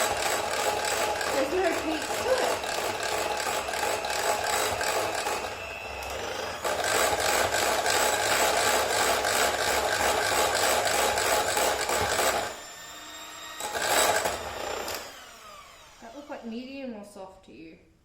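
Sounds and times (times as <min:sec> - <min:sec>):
electric hand mixer running: 0:00.0 - 0:16.6.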